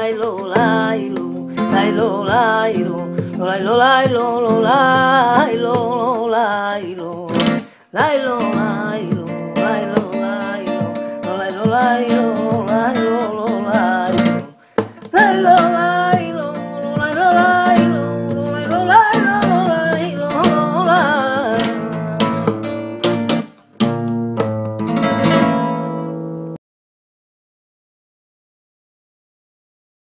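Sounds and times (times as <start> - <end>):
strummed acoustic guitar: 0.0 - 26.6.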